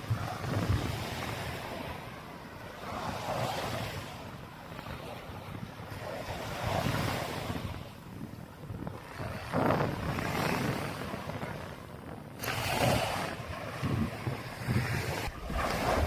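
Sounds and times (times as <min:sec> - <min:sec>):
small surf washing on beach: 0:00.0 - 0:16.0
wind rumbling on microphone: 0:00.0 - 0:16.0.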